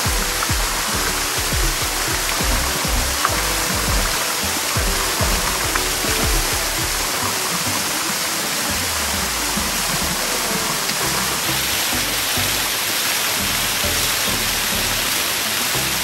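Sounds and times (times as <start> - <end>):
background music: 0.0 - 16.0
waterfall rushing: 0.0 - 16.0.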